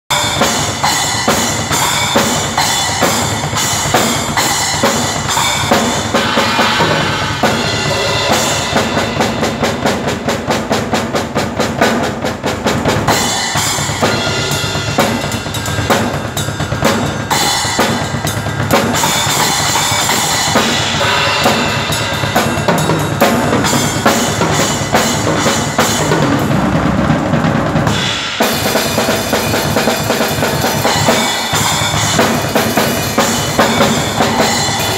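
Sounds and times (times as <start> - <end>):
drum kit played hard: 0.0 - 34.9.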